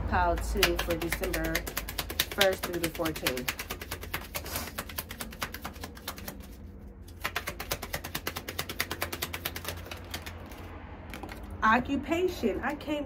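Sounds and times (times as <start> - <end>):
cards being shuffled: 0.5 - 11.5.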